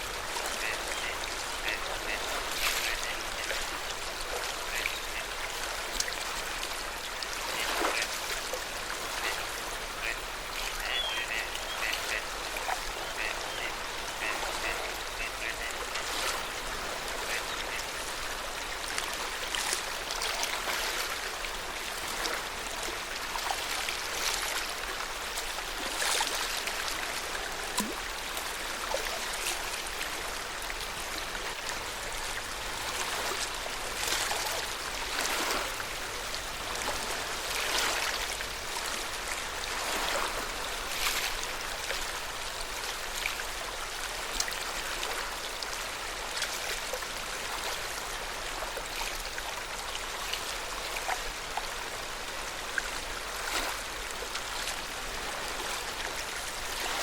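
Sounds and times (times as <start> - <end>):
lake water lapping: 0.0 - 57.0.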